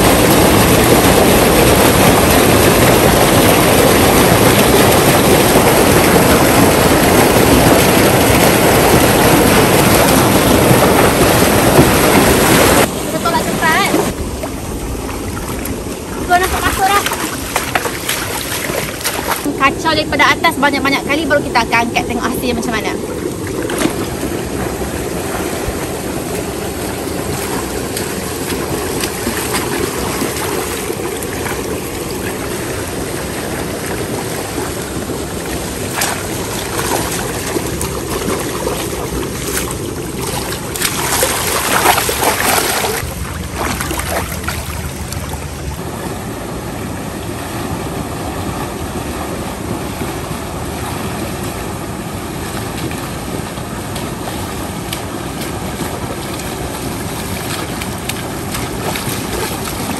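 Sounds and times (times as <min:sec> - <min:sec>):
stream running over stones: 0:00.0 - 0:45.8, 0:52.2 - 0:59.9
water splashing: 0:00.0 - 0:59.9.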